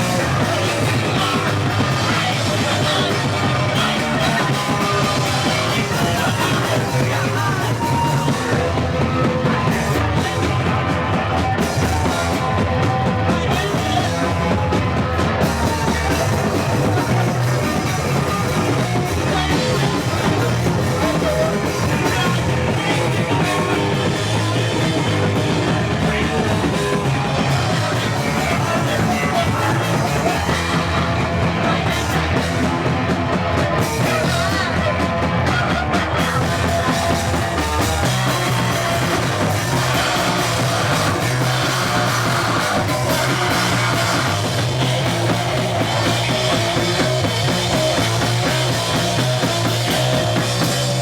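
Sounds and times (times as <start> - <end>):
punk rock band playing live: 0.0 - 51.0.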